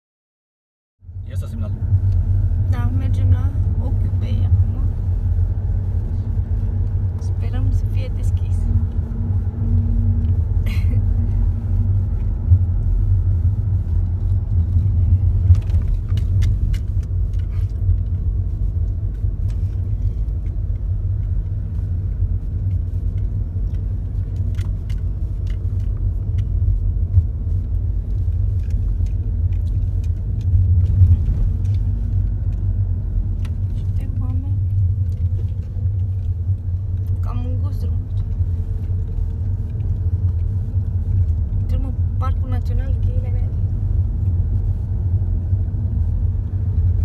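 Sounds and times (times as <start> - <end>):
car interior road rumble: 1.0 - 47.0.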